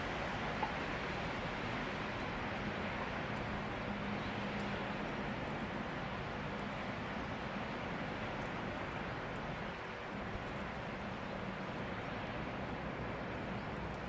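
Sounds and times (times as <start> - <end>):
faint ticks of raindrops: 0.0 - 14.0
steady rain hiss: 0.0 - 14.0.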